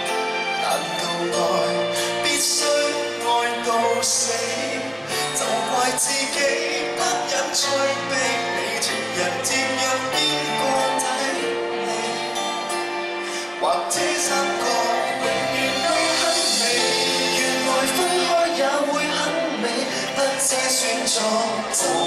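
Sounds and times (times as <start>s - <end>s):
live pop band playing: 0.0s - 22.0s
man singing: 0.0s - 22.0s.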